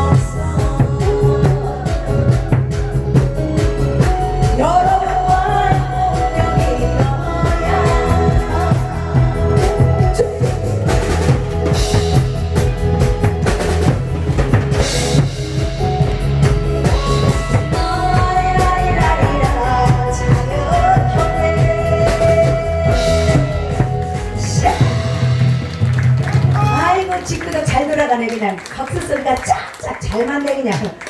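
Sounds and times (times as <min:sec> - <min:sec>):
backing music with melody: 0:00.0 - 0:26.7
drum kit playing a steady beat: 0:00.0 - 0:28.4.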